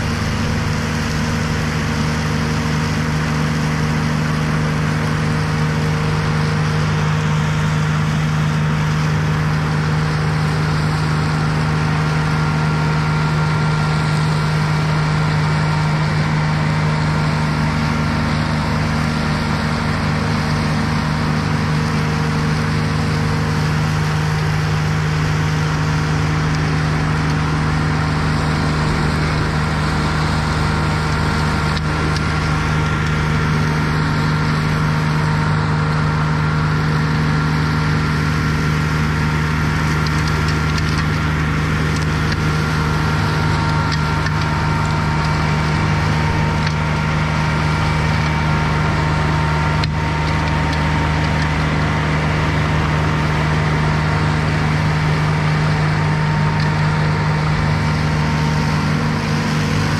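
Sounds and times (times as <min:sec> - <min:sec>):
flail mulcher shredding grass: 0:00.0 - 0:59.9
mower engine running steadily: 0:00.0 - 0:59.9.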